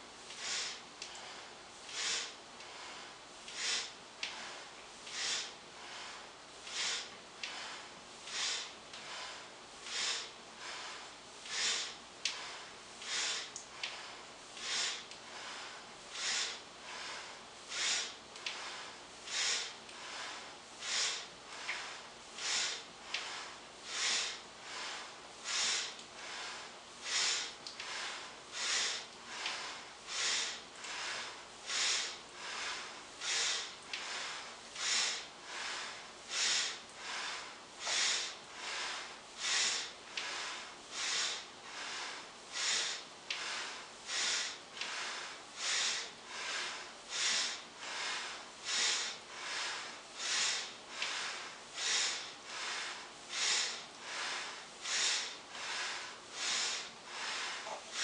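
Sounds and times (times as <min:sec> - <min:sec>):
man breathing rhythmically: 0:00.0 - 0:58.0.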